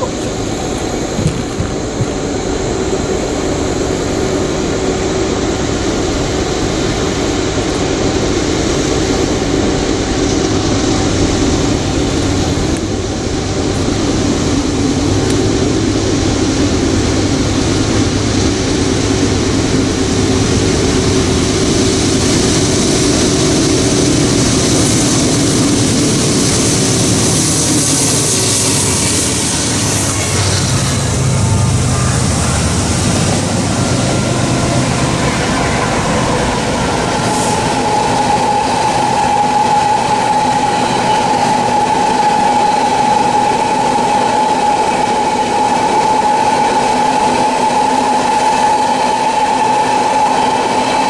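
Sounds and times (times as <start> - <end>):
diesel locomotives droning: 0.0 - 51.0
freight cars rolling on rails: 0.0 - 51.0.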